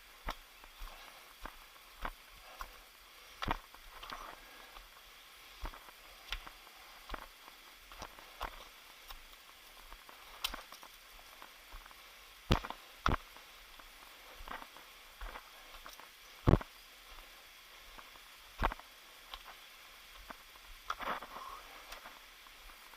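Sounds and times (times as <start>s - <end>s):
footsteps on forest trail: 0.0s - 22.9s.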